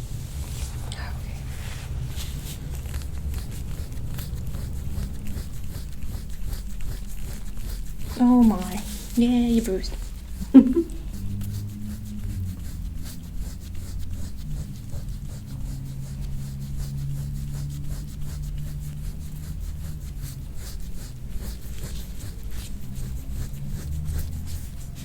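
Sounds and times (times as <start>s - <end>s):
low steady hum: 0.0s - 25.0s
hands rubbing over skin and clothing: 0.3s - 25.0s.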